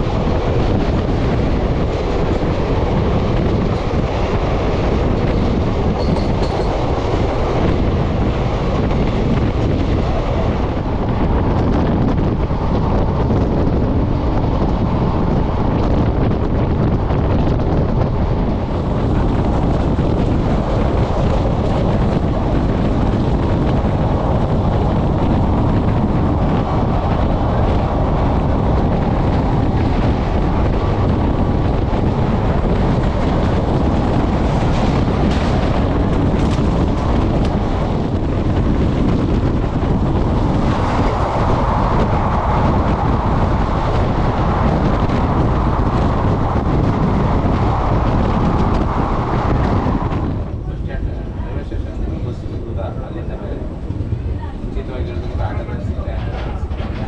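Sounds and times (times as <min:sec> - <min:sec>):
train running along the line: 0:00.0 - 0:57.0
wind on microphone: 0:00.0 - 0:57.0.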